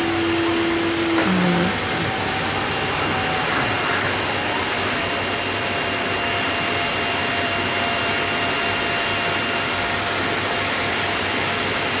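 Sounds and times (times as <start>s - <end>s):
cnc router running with whine: 0.0s - 11.9s.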